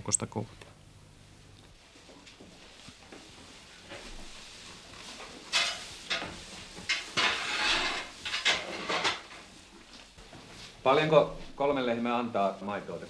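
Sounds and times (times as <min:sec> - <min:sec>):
hay rustling: 0:01.8 - 0:13.0.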